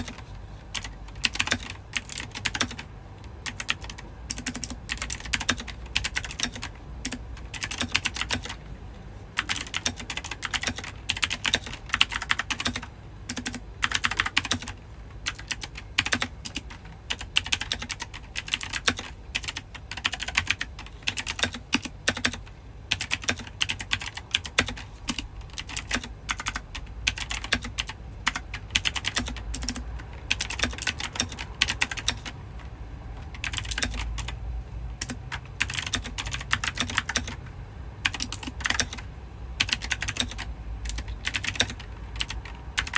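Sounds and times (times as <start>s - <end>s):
mechanical keyboard typing: 0.0s - 8.6s, 9.4s - 34.4s, 35.0s - 42.9s.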